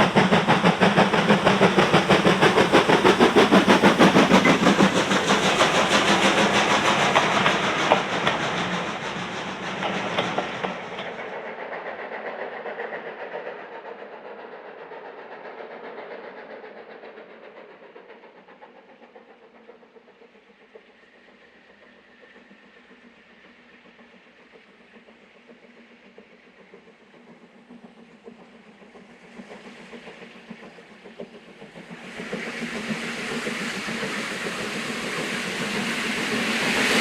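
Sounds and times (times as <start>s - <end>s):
train running by: 0.0s - 37.0s.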